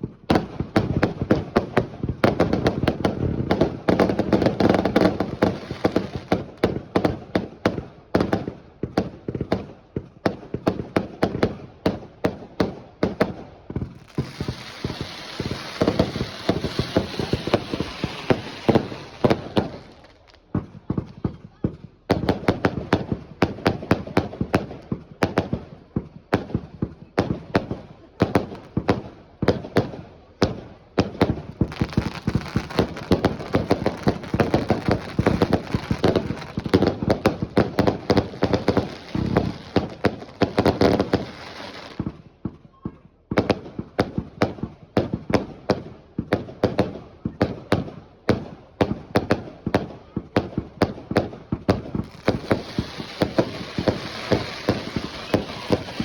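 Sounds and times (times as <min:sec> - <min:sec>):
dense fireworks crackling: 0:00.0 - 0:56.0
fireworks bangs and pops: 0:00.0 - 0:56.0.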